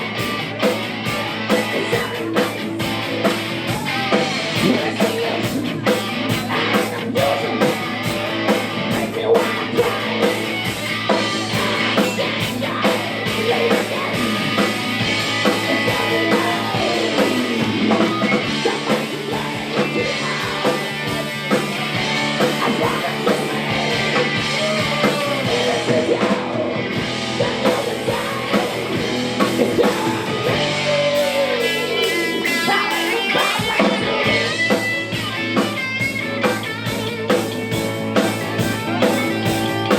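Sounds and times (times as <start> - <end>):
rock music with guitar: 0.0 - 39.9.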